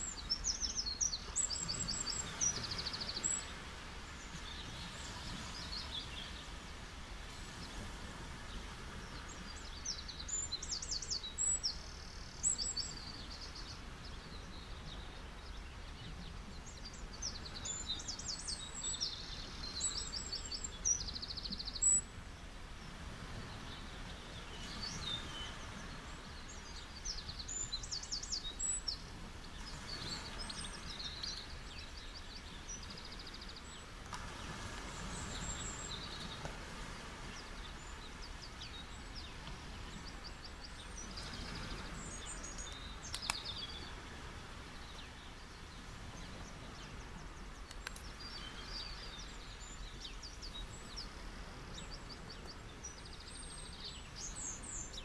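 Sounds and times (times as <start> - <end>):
ocean waves on a beach: 0.0 - 55.0.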